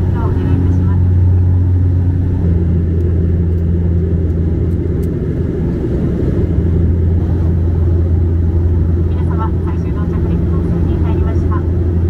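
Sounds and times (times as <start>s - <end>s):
engine and airflow rumble: 0.0s - 12.0s
propeller drone: 0.0s - 12.0s.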